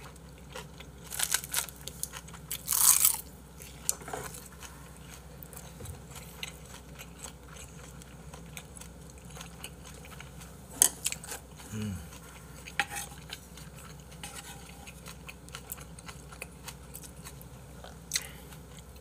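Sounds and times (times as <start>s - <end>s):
quiet chewing: 3.6s - 19.0s.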